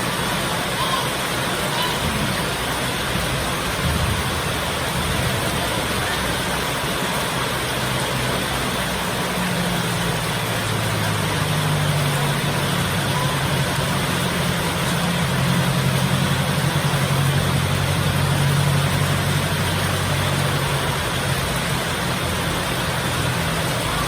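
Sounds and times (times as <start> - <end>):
heavy rain: 0.0 - 24.0
low engine-like hum: 0.0 - 24.0.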